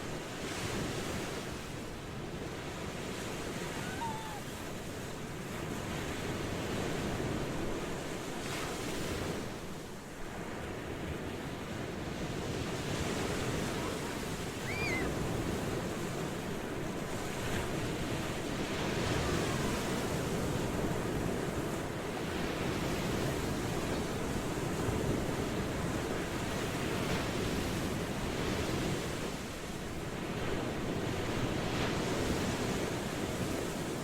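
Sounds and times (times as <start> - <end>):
ocean surf washing: 0.0 - 34.0.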